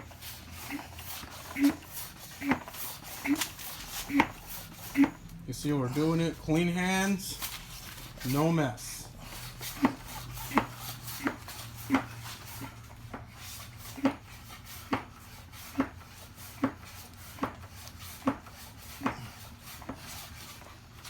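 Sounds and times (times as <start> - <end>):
hand pump strokes: 0.0 - 21.0.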